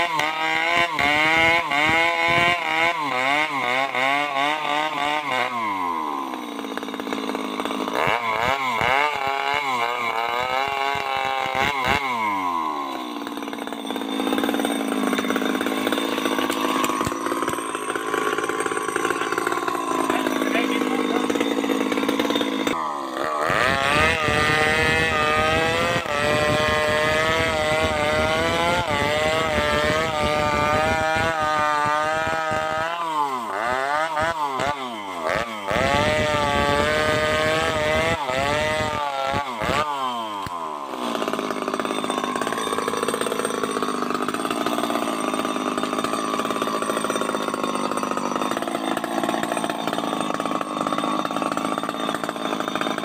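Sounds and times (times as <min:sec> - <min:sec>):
chainsaw revving: 0:00.0 - 0:53.0.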